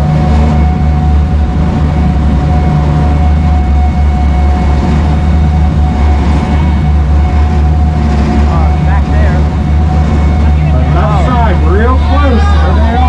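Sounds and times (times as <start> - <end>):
boat engines droning: 0.0 - 13.0
thin steady engine whine: 0.0 - 13.0.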